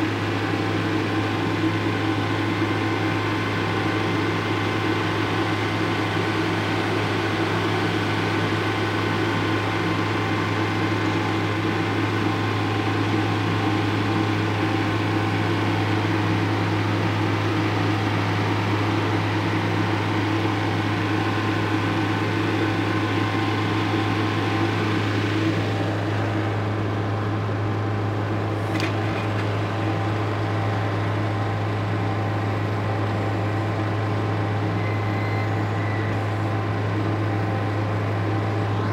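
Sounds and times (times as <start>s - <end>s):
diesel engine running at high revs: 0.0s - 38.9s.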